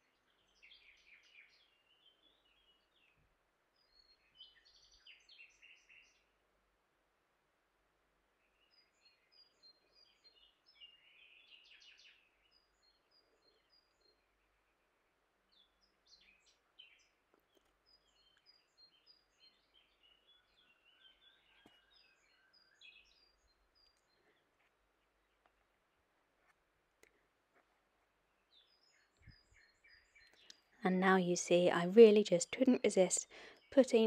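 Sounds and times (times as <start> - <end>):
songbird chirping and trilling: 0.0 - 6.4, 8.4 - 27.2, 28.1 - 34.0.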